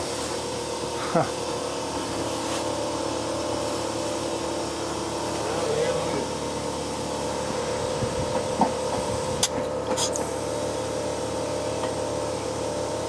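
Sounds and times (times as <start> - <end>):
compressed air hisses: 0.0 - 1.0, 1.8 - 12.7
motor humming: 0.0 - 13.0.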